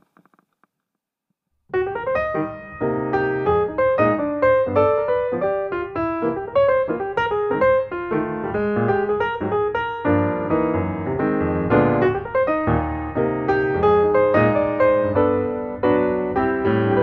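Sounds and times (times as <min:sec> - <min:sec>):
piano music: 0:01.7 - 0:17.0.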